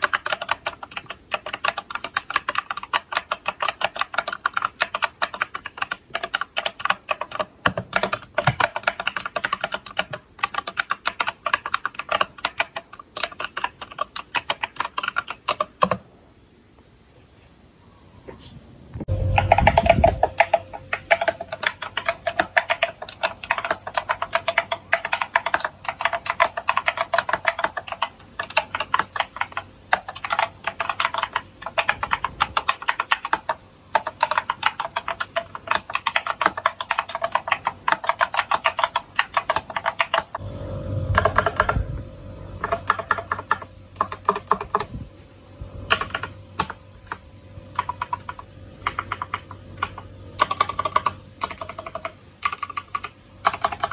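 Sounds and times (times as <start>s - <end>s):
mechanical keyboard typing: 0.0s - 16.0s, 19.3s - 40.4s, 41.2s - 41.8s, 42.6s - 44.9s, 45.9s - 53.9s
faint steady hum: 0.0s - 53.9s.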